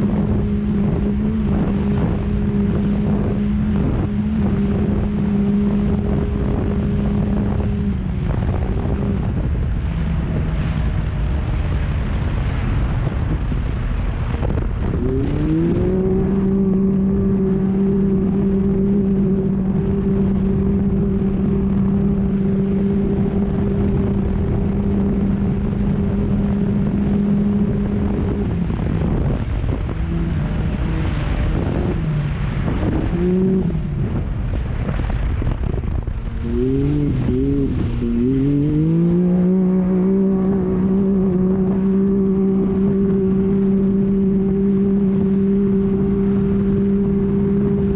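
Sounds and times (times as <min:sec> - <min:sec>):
race vehicle engine revving: 0:00.0 - 0:47.9
wind and ride noise: 0:00.0 - 0:47.9.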